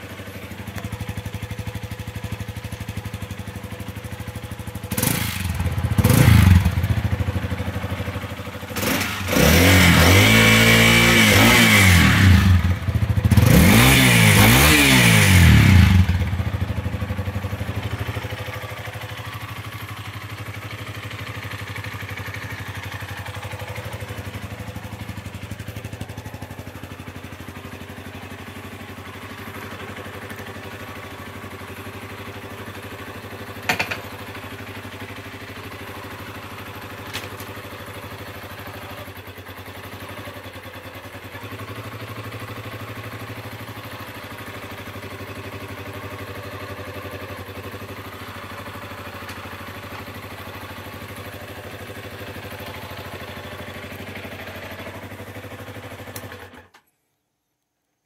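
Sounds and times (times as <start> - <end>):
motorcycle engine idling: 0.0 - 56.8.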